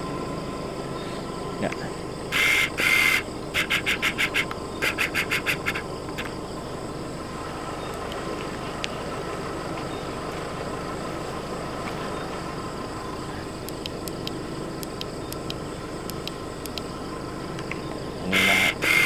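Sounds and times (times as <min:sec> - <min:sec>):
night background noise: 0:00.0 - 0:19.0.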